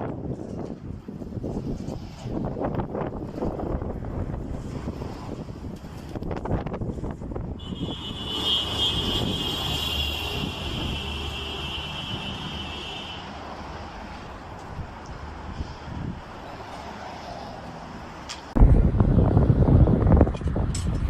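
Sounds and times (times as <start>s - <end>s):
wind buffeting microphone: 0.0s - 17.0s, 18.4s - 21.0s.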